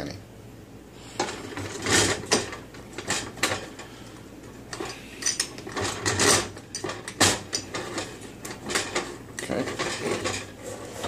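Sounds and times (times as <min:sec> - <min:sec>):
fryer basket clattering: 0:01.2 - 0:03.9, 0:04.7 - 0:11.0.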